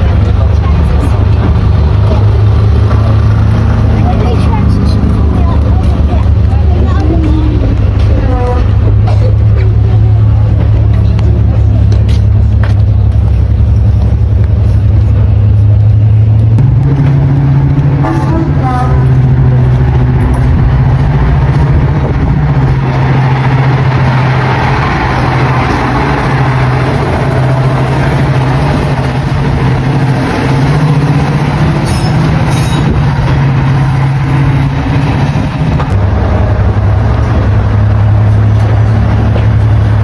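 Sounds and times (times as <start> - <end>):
diesel locomotive engine droning: 0.0 - 40.0.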